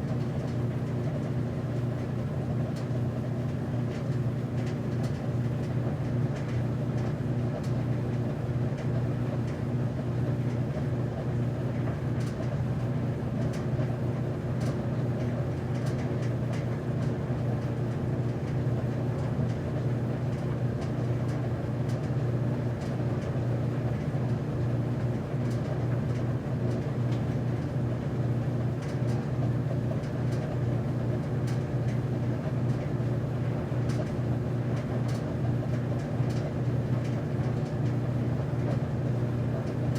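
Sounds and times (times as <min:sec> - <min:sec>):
laundry machine motor hum: 0:00.0 - 0:39.9.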